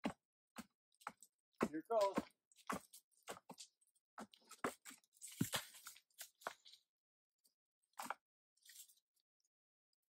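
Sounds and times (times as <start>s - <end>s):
rocks and soil crunching: 0.0s - 6.9s, 7.8s - 9.2s.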